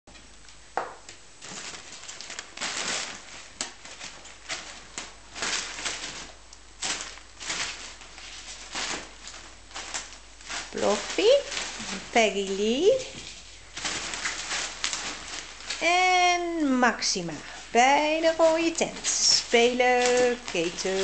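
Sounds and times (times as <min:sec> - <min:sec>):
fabric tent rustling: 0:01.4 - 0:21.0.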